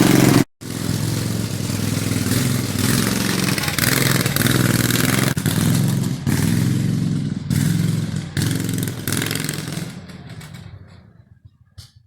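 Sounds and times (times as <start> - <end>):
lawn mower engine running: 0.0 - 11.3.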